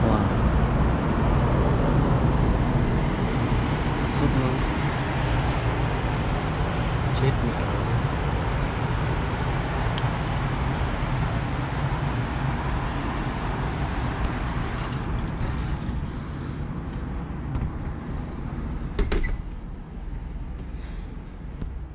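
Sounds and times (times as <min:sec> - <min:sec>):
city road traffic hum: 0:00.0 - 0:21.9.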